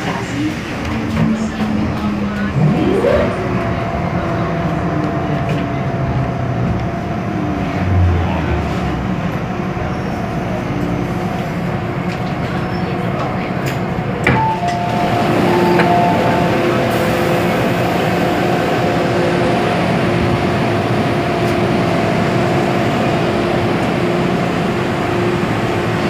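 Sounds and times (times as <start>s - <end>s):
electric train running: 0.0s - 26.0s.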